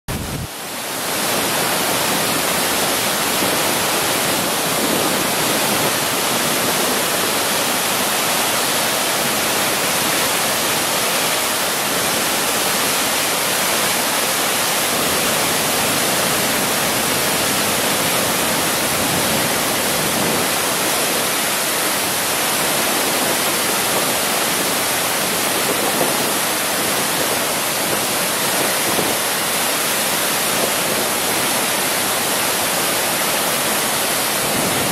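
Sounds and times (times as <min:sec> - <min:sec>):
water rushing over dam: 0:00.1 - 0:34.9.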